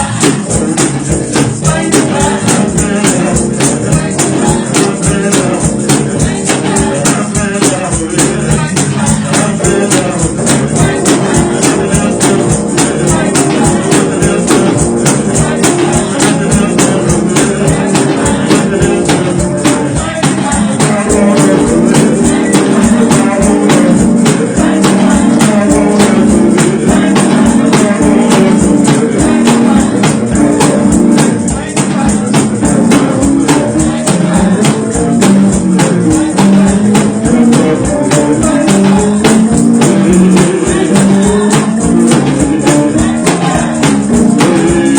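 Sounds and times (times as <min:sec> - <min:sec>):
gospel church music: 0:00.0 - 0:44.9
tambourine shaken and struck: 0:00.0 - 0:44.9
voices singing: 0:00.0 - 0:44.9.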